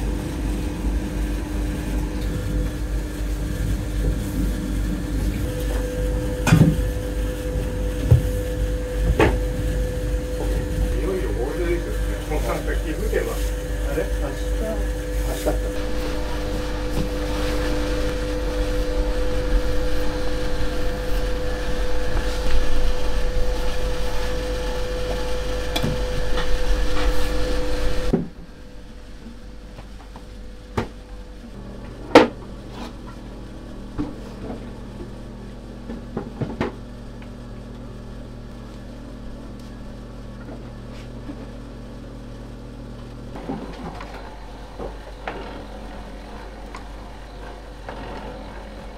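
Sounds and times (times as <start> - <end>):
machine hum with held tones: 0.0 - 48.9.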